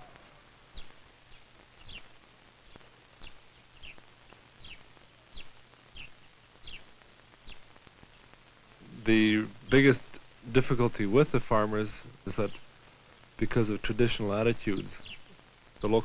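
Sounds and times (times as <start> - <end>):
bird chirping: 0.0 - 12.8, 13.4 - 16.0
faint low hum: 0.0 - 16.0.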